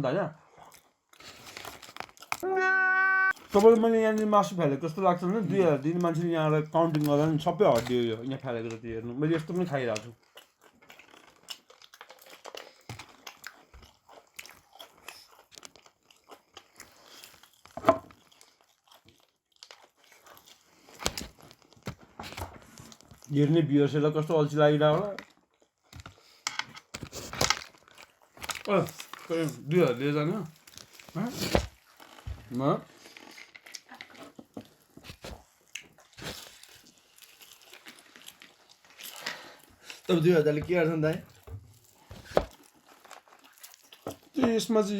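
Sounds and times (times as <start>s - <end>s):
chewing crunchy fried chicken: 0.4s - 2.5s, 3.4s - 23.5s, 24.9s - 44.9s.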